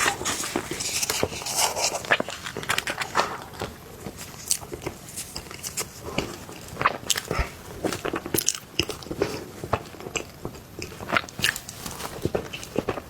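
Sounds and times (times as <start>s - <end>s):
person chewing cake: 0.0s - 13.0s.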